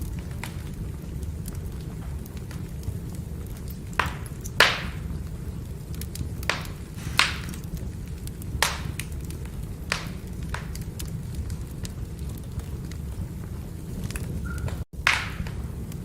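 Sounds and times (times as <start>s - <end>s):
firewood crackling: 0.0s - 16.0s
low rush of fire: 0.0s - 16.0s.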